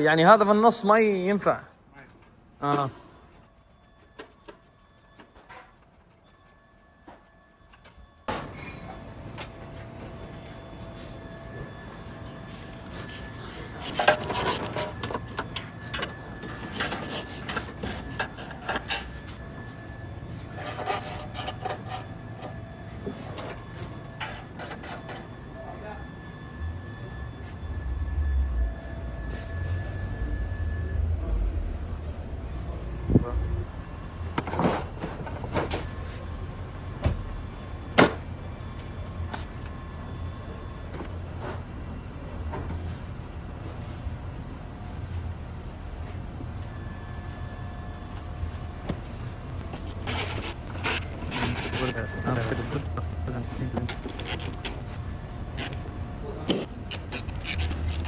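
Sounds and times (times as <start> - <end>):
steady low hum: 8.3 - 58.0.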